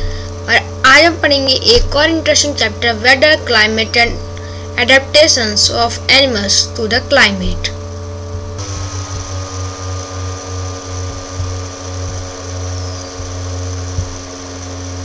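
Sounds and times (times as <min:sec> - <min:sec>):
motor drone with whining tones: 0:00.0 - 0:15.0.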